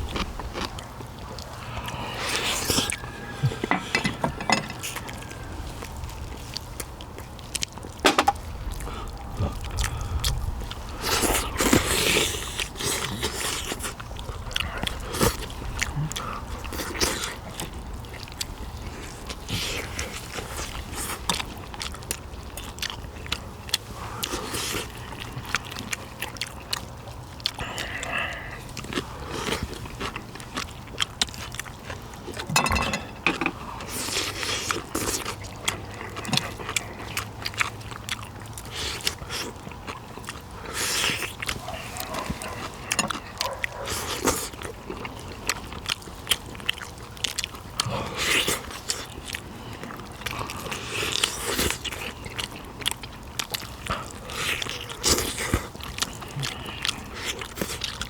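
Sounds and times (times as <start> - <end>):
chewing and wet mouth noises: 0.0 - 58.0
steady low hum: 0.0 - 58.0.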